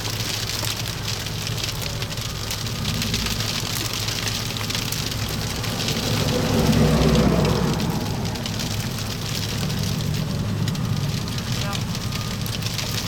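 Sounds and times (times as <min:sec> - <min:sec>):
sleet ticking on a surface: 0:00.0 - 0:13.0
vehicle rumbling: 0:00.0 - 0:13.0.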